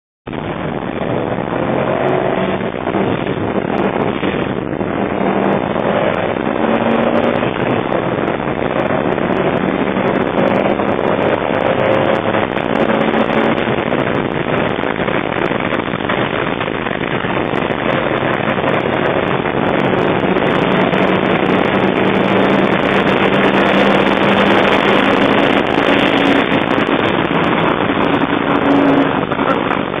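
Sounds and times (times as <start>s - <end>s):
road and wind noise: 0.2s - 30.0s
car engine accelerating hard: 0.3s - 30.0s.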